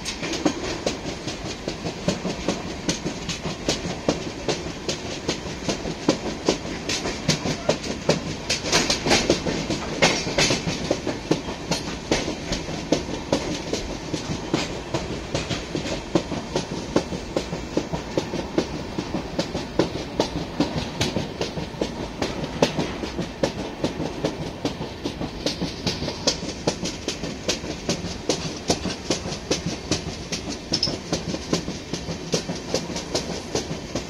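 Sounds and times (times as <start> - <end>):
train rumble: 0.0 - 34.0
train wheels clacking on rails: 0.0 - 34.0.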